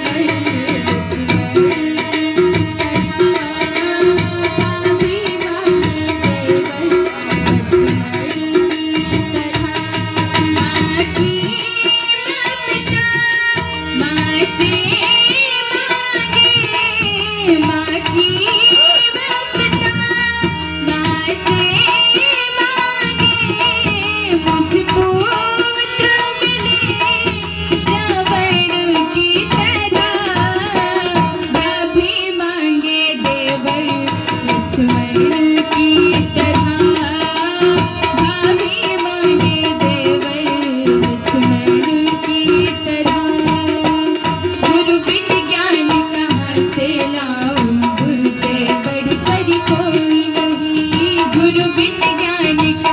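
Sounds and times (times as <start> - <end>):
harmonium: 0.0 - 52.9
tabla: 0.0 - 52.9
woman singing: 0.0 - 52.9.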